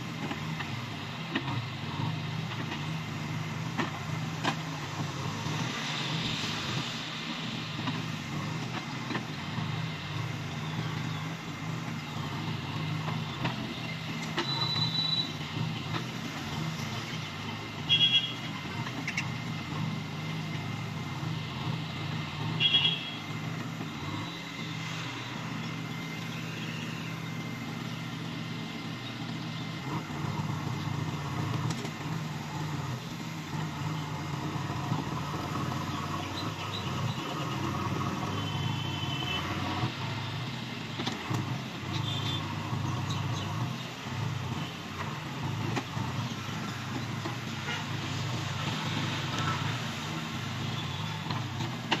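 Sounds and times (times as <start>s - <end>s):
backhoe digging earth: 0.0s - 52.0s
diesel engine running: 0.0s - 52.0s.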